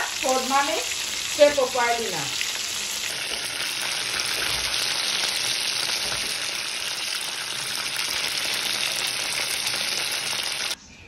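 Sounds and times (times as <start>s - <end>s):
oil sizzling and bubbling: 0.0s - 10.8s.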